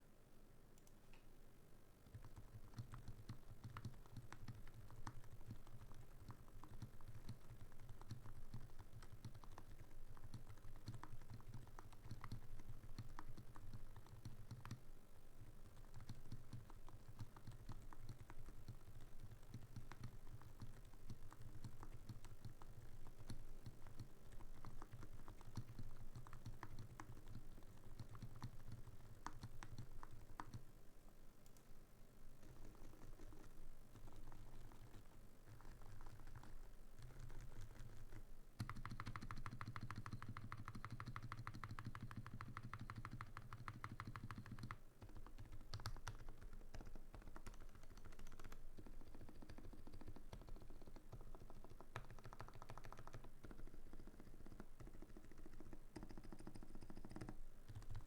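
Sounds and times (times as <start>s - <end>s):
soft keyboard keystrokes: 2.0s - 30.8s, 31.4s - 58.0s.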